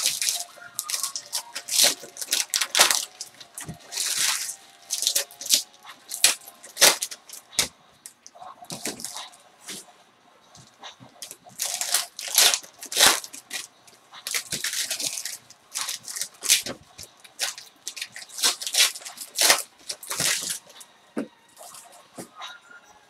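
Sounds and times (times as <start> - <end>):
foil wrappers tearing and crinkling: 0.0 - 9.8, 11.2 - 20.8.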